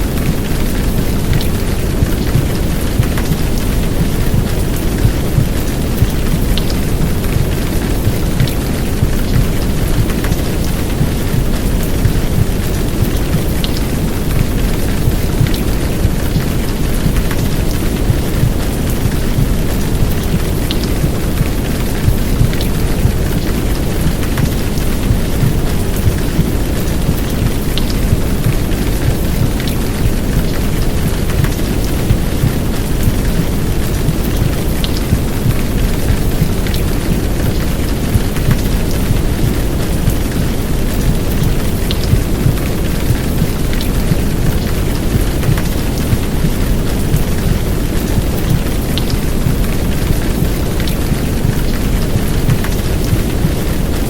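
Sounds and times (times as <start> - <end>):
heavy rain downpour: 0.0 - 54.0
water drips ticking: 0.0 - 54.0
white noise: 0.0 - 54.0.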